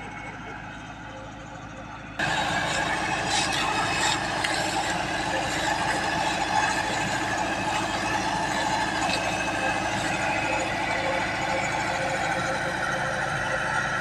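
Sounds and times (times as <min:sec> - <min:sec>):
engine running with clatter: 0:00.0 - 0:14.0.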